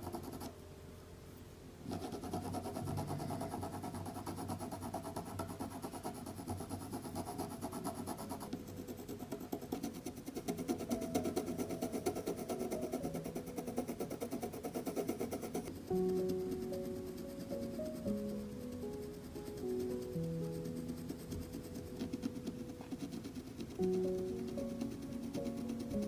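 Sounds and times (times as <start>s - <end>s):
coloured pencil scratching on paper: 0.0s - 0.6s, 1.8s - 26.0s.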